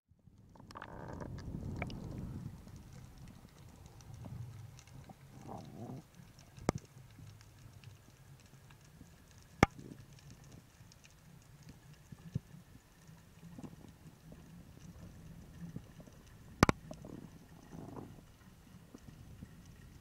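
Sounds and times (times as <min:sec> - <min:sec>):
low underwater rumble: 0:00.2 - 0:10.6, 0:11.5 - 0:20.0
sharp underwater clicks: 0:00.6 - 0:20.0.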